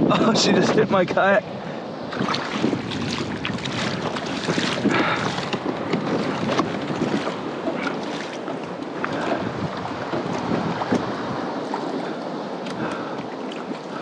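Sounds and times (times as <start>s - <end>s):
wind buffeting microphone: 0.0s - 14.0s
water splashing against a hull: 1.5s - 14.0s.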